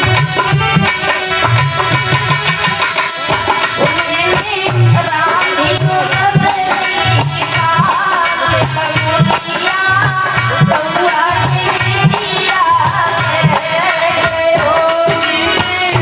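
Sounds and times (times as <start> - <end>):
hand drum rhythm: 0.0 - 16.0
woman singing devotional song: 0.0 - 16.0.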